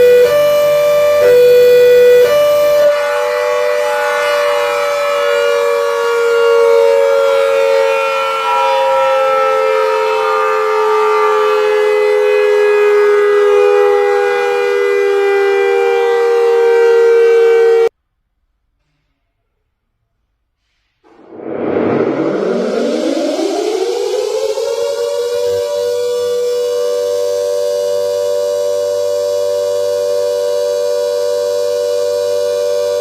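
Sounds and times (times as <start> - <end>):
air raid siren: 0.0 - 17.9, 21.1 - 33.0.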